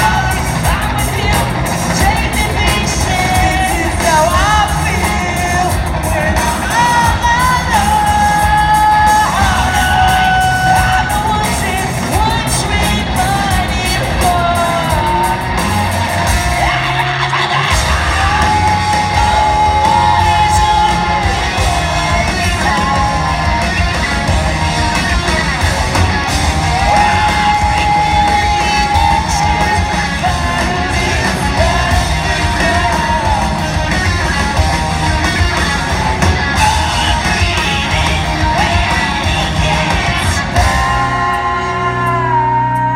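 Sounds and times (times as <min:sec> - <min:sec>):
live rock band: 0:00.0 - 0:42.9
person singing and yelling: 0:00.0 - 0:42.9.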